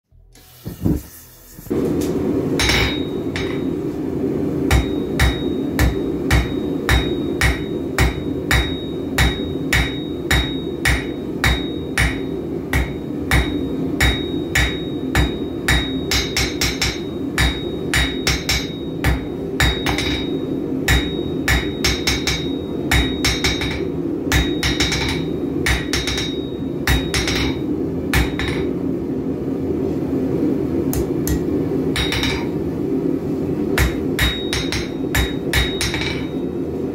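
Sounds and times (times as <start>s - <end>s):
hammer striking steel on anvil: 2.6s - 3.8s, 4.6s - 28.8s, 30.9s - 32.6s, 33.8s - 36.6s.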